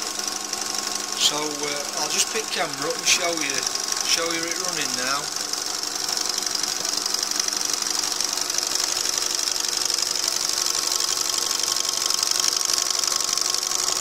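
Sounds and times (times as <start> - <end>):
fast even ticking: 0.0 - 14.0
lathe running: 0.0 - 14.0.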